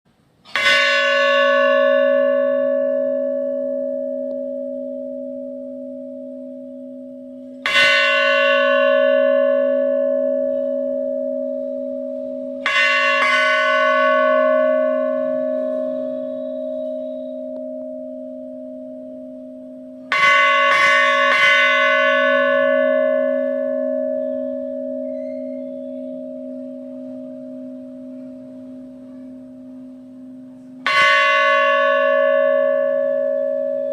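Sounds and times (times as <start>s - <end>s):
temple bell clanging: 0.4s - 33.9s.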